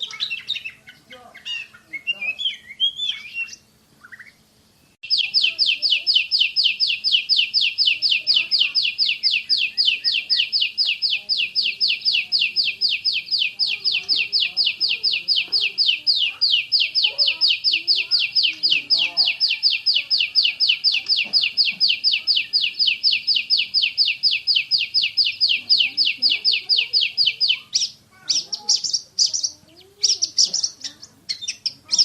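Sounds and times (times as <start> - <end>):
faint bird chirps: 0.0 - 32.0
songbird warbling and whistling: 0.0 - 32.0.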